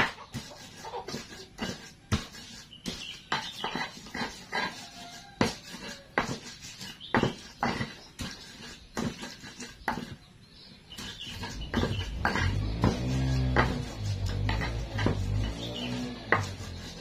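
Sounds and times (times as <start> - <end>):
pestle pounding in mortar: 0.0 - 10.2, 11.0 - 17.0.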